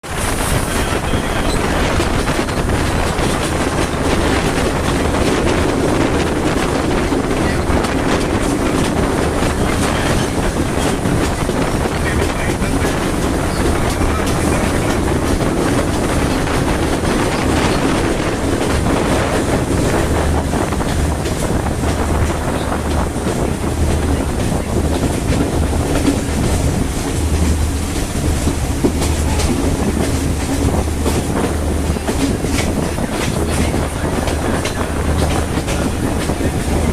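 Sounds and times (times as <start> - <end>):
train rumbling: 0.0 - 36.9
wheels clacking over rail joints: 0.0 - 36.9.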